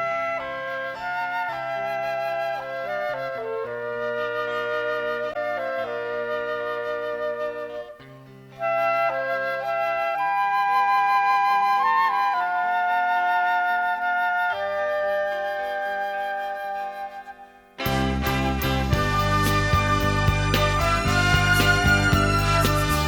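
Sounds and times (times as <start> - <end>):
instrumental backing music: 0.0 - 23.0.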